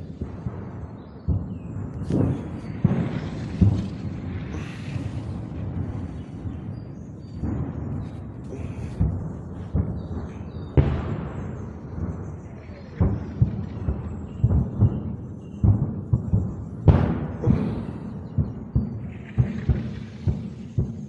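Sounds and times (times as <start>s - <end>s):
artillery booms echoing: 0.0s - 21.0s.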